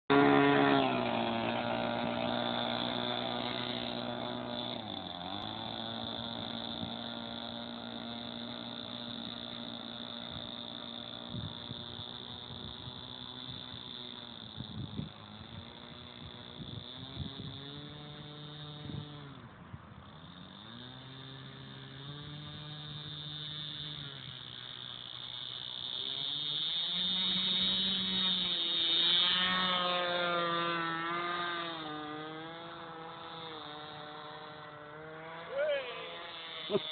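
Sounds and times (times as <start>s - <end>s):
model airplane engine running: 0.1s - 36.9s.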